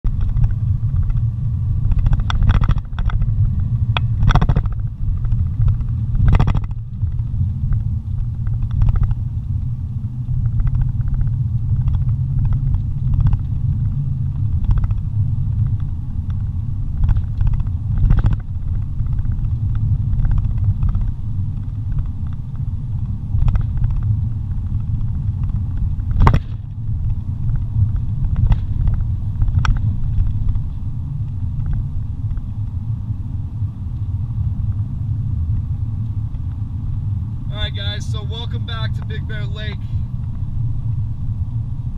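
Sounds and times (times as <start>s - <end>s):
engine and tyre rumble: 0.0s - 41.9s.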